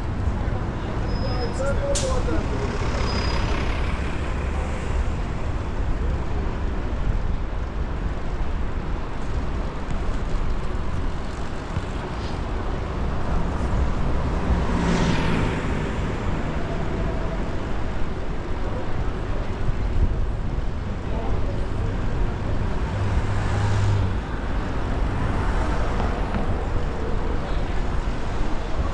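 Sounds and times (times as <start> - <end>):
city street traffic: 0.0 - 28.9.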